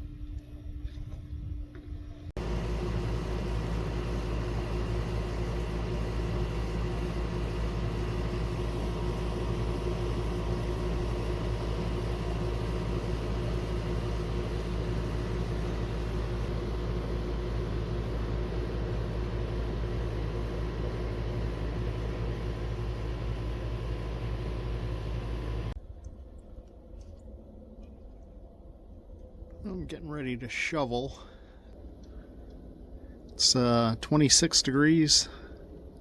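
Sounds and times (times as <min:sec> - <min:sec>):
machine rumbling and humming: 0:00.0 - 0:36.0.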